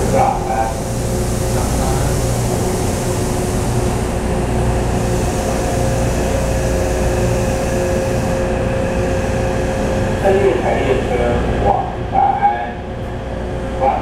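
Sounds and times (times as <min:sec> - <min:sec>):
train humming: 0:00.0 - 0:14.0.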